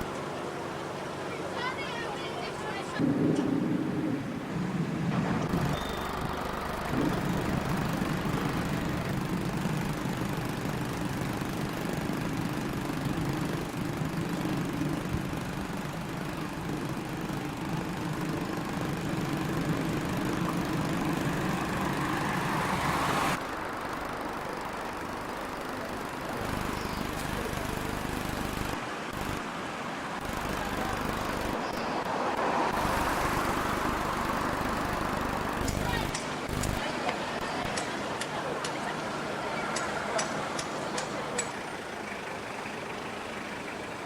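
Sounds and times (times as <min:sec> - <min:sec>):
heavy vehicle engine running: 0:00.0 - 0:44.0.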